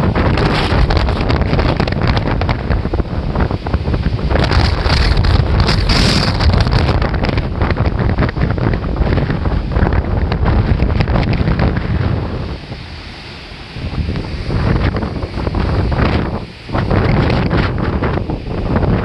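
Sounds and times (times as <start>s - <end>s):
heavy surf breaking: 0.0s - 19.0s
wind buffeting microphone: 0.0s - 19.0s.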